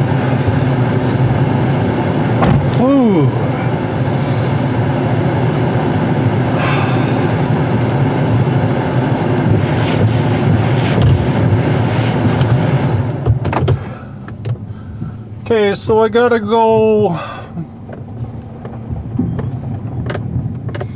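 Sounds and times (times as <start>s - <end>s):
truck engine and road rumble: 0.0s - 20.9s.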